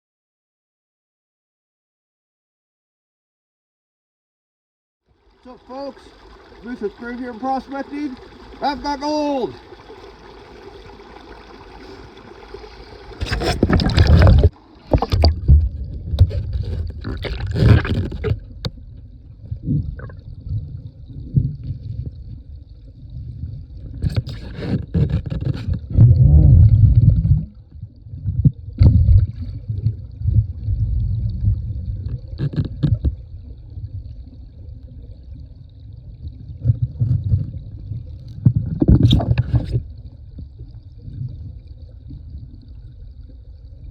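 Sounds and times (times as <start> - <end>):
creek water swirling: 5.1 - 43.9.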